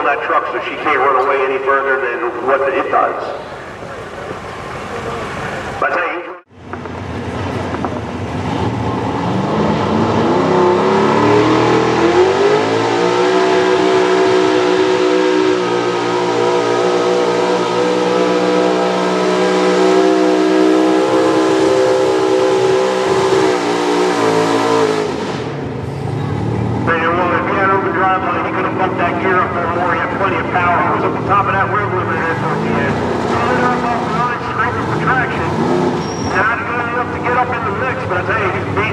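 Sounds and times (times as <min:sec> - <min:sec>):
truck engine at full throttle: 0:06.5 - 0:38.9.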